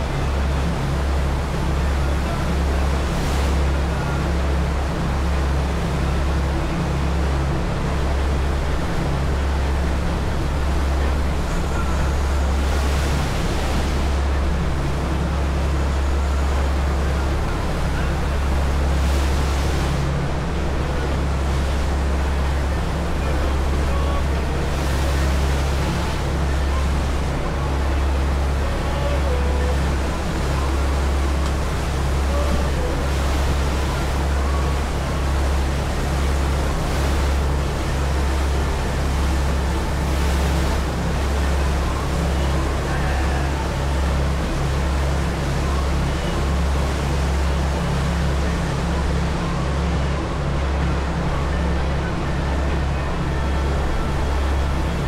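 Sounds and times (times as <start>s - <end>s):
low engine drone: 0.0s - 55.0s
water rushing from wake: 0.0s - 55.0s.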